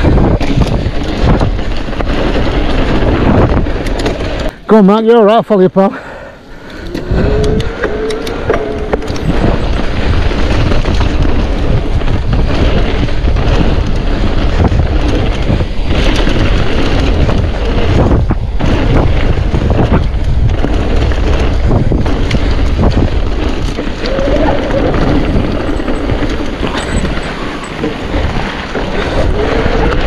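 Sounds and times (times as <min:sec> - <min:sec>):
wind buffeting microphone: 0:00.0 - 0:04.6, 0:06.4 - 0:30.0
bike rattles and knocks: 0:00.0 - 0:05.2, 0:06.6 - 0:30.0
bike tyres on rough trail: 0:00.0 - 0:30.0.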